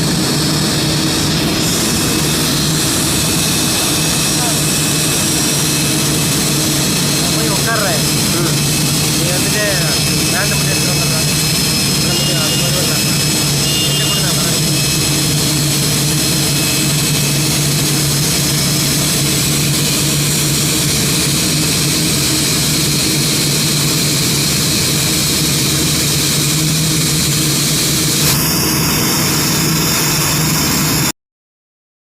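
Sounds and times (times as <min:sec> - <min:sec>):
jet engines roaring: 0:00.0 - 0:31.1.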